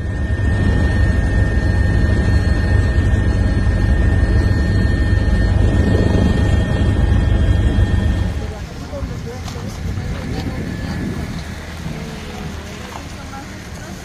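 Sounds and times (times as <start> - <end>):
aircraft engine rumble: 0.0 - 14.0
high engine whine: 0.0 - 14.0.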